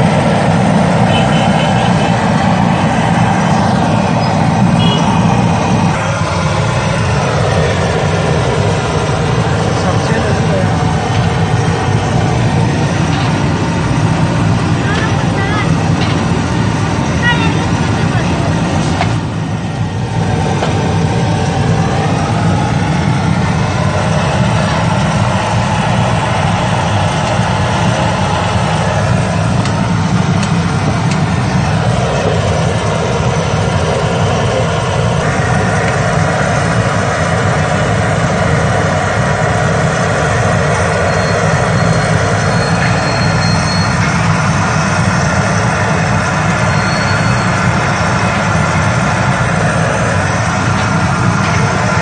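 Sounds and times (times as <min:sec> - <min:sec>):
low rumble: 0:00.0 - 0:52.0.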